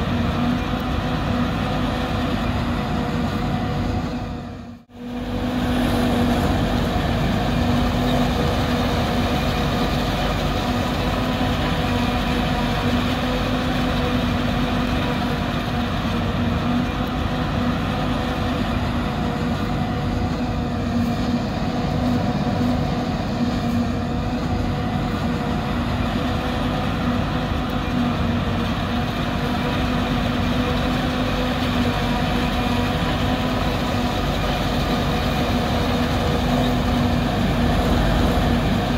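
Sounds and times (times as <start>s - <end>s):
forage harvester machinery drone: 0.0s - 38.9s.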